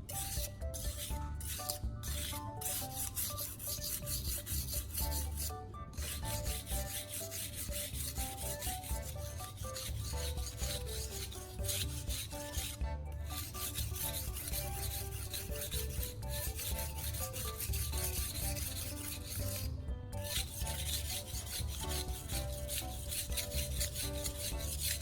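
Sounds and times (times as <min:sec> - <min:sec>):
knife scraping on whetstone: 0:00.0 - 0:25.0
light background music: 0:00.0 - 0:25.0.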